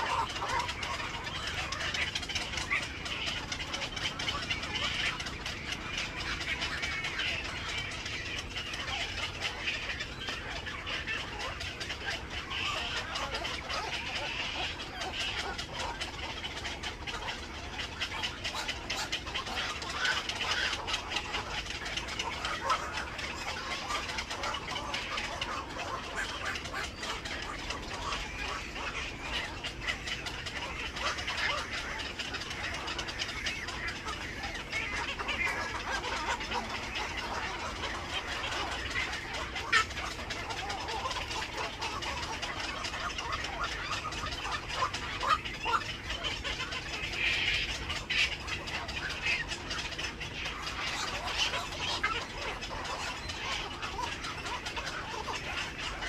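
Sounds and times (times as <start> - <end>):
birds chattering and clucking: 0.0 - 56.0.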